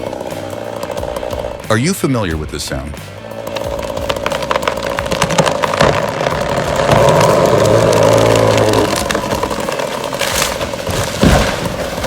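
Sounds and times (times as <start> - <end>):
engine running with rattling clicks: 0.0 - 1.7, 3.2 - 12.0.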